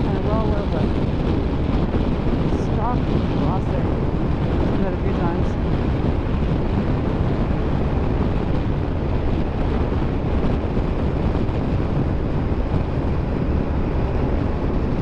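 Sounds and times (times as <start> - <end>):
motorcycle road noise: 0.0 - 15.0
wind buffeting microphone: 0.0 - 15.0
wind rush: 0.0 - 15.0.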